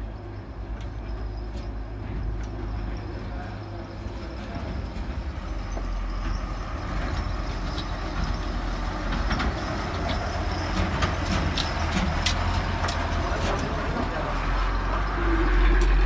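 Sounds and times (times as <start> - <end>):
truck clattering and rattling: 0.0 - 16.0
truck engine rumble: 0.0 - 16.0.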